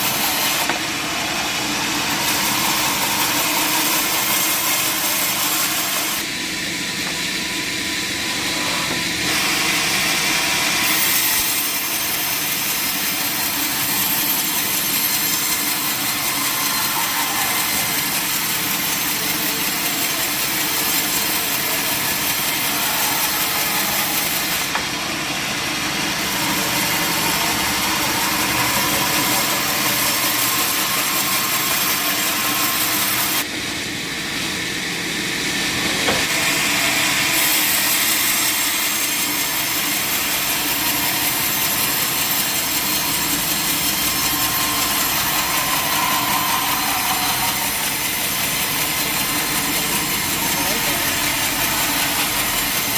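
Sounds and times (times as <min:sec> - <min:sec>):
sawmill saw cutting log: 0:00.0 - 0:33.6, 0:34.8 - 0:52.9.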